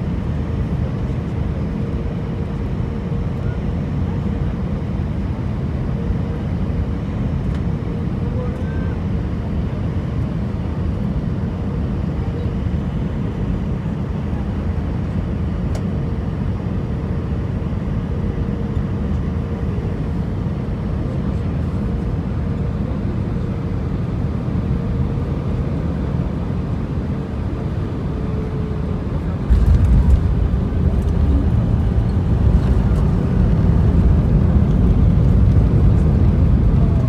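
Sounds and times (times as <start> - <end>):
aircraft cabin engine rumble: 0.0 - 37.0.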